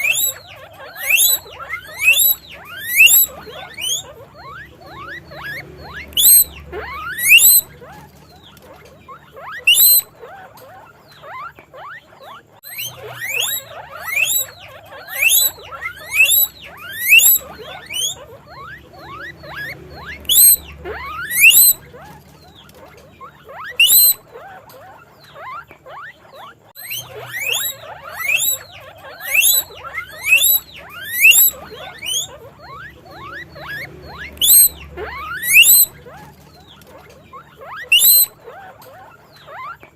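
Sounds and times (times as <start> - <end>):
faint overlapping squeaks: 0.0 - 39.9
guinea pigs wheeking: 0.0 - 39.9.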